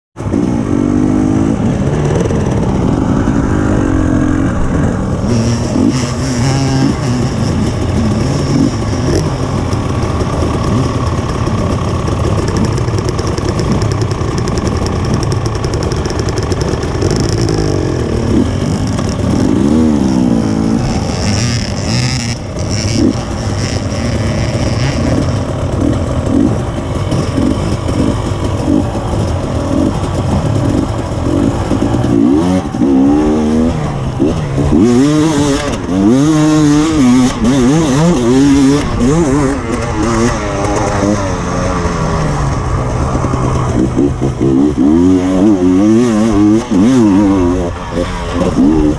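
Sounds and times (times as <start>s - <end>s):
dirt bike engine revving: 0.2s - 48.9s
other dirt bike engines: 0.2s - 48.9s.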